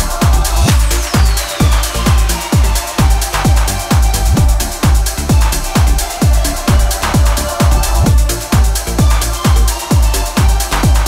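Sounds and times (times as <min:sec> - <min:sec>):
descending synth sweep: 0:00.0 - 0:11.0
electronic dance music: 0:00.0 - 0:11.0
kick drum: 0:00.0 - 0:11.0.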